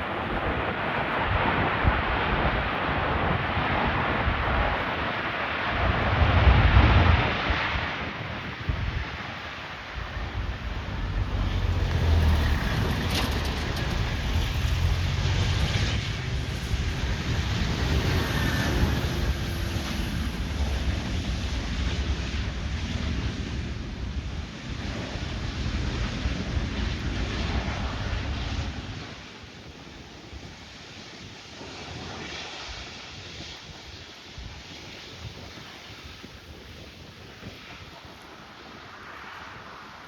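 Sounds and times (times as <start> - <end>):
jet airliner passing: 0.0 - 40.0
wind buffeting microphone: 0.0 - 40.0.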